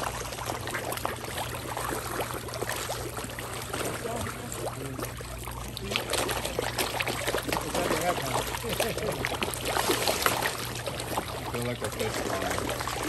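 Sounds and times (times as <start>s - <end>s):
fish splashing at water surface: 0.0s - 13.0s.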